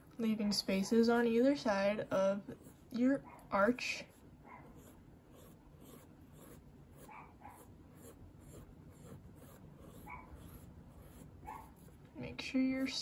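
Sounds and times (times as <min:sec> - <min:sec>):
pencil scratching on paper: 0:00.2 - 0:13.0.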